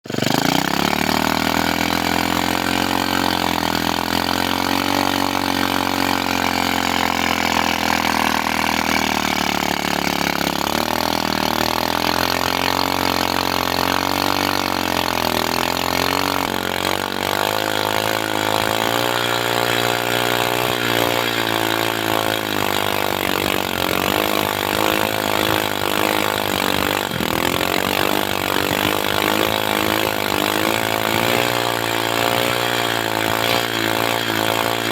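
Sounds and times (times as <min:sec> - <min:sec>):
motorcycle engine under load: 0:00.0 - 0:34.9.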